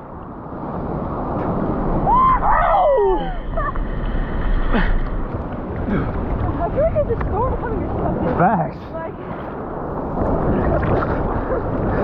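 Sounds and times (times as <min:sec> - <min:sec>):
ocean wave breaking: 0:00.4 - 0:12.0.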